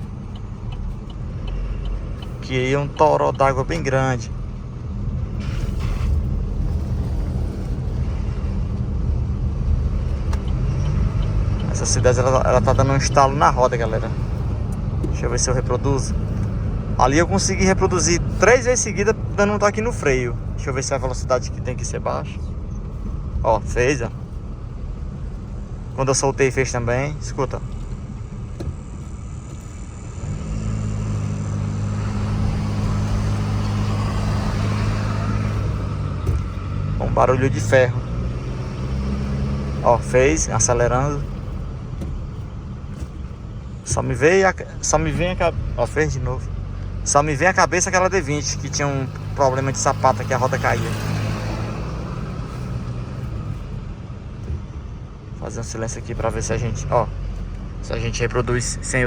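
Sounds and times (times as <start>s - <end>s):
pickup truck driving rumble: 0.0s - 59.0s
tyre noise on wet road: 0.0s - 59.0s.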